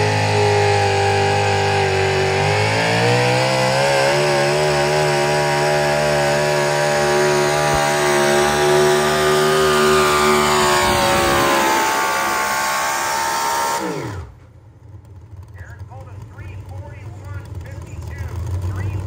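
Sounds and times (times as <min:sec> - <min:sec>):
vehicle engine at high revs: 0:00.0 - 0:19.0.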